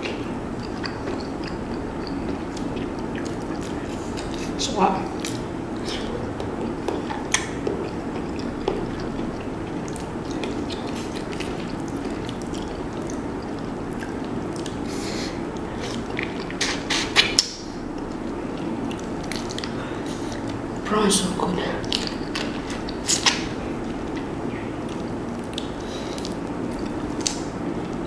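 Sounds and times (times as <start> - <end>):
wet eating and chewing: 0.0 - 20.8, 21.8 - 28.0
low background hum: 0.0 - 28.0.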